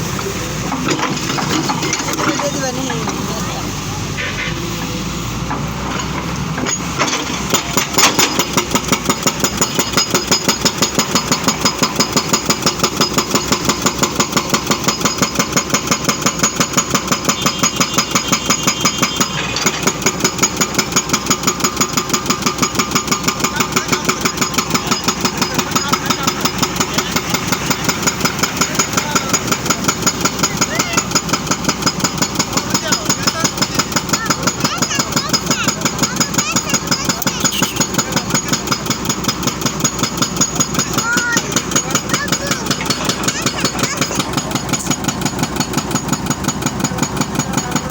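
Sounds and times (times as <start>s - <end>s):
excavator engine knocking: 0.0s - 47.9s.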